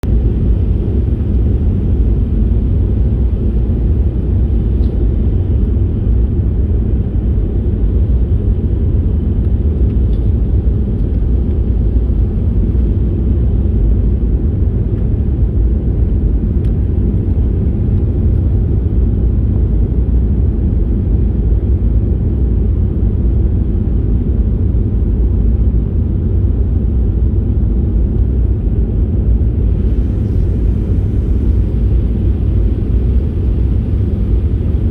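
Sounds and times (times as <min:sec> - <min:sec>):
jet engine cabin rumble: 0:00.0 - 0:34.9.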